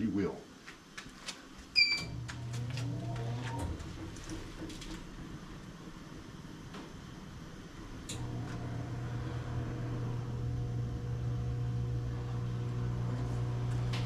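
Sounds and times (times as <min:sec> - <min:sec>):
motor spinning wheel hum: 0:02.1 - 0:14.0.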